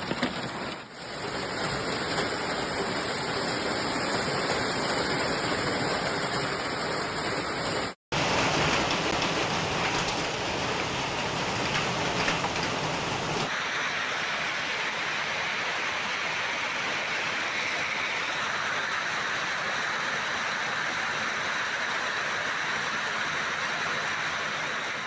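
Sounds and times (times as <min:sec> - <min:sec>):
heavy rain hissing: 0:01.0 - 0:25.0.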